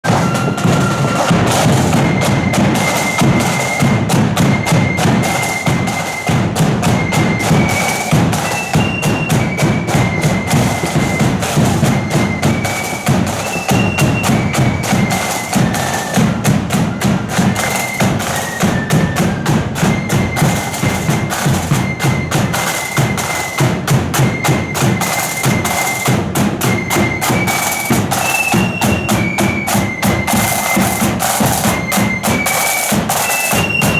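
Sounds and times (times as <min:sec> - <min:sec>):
flute melody: 0:00.0 - 0:33.9
snare drum rolls: 0:00.0 - 0:33.9.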